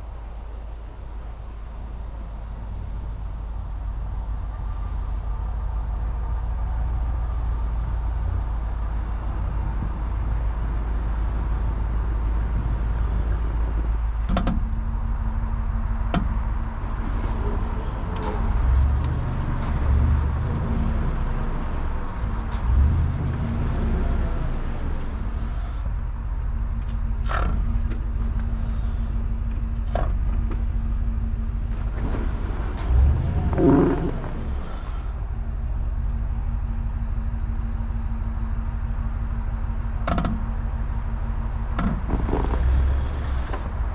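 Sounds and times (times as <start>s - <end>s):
truck engine and tyre rumble: 0.0s - 43.9s.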